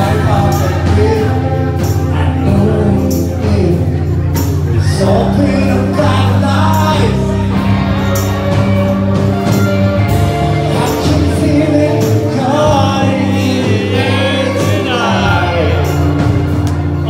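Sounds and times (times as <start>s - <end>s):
loud amplified music with singing: 0.0s - 17.0s.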